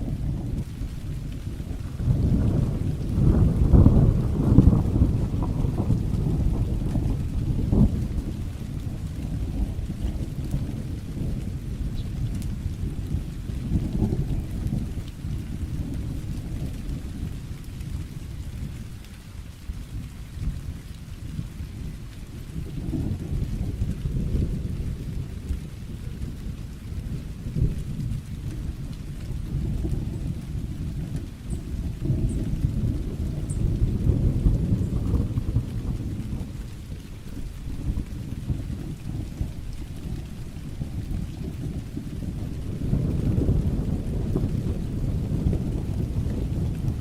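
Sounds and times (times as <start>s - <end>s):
rolling thunder rumble: 0.0s - 47.0s
steady rain: 0.0s - 47.0s.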